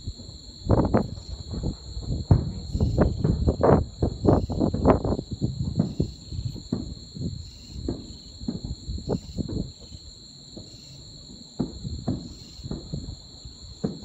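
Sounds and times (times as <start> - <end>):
crickets trilling: 0.0 - 14.0
distant fireworks booming: 0.0 - 14.0.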